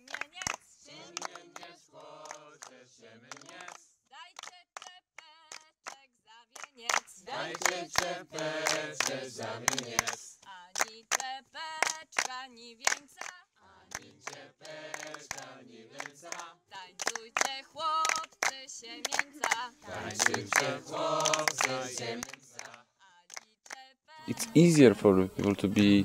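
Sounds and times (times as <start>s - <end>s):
group singing a cappella: 0.0s - 3.9s, 6.8s - 24.9s
hand claps: 0.0s - 6.0s, 6.6s - 24.5s.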